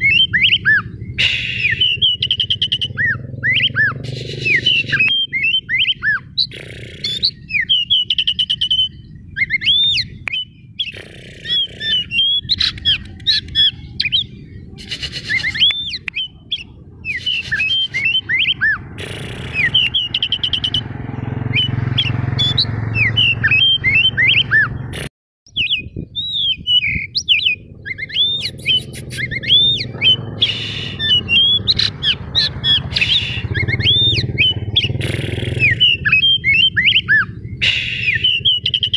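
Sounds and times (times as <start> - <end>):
bird singing whistles and chatter: 0.0 - 24.9, 25.5 - 38.9.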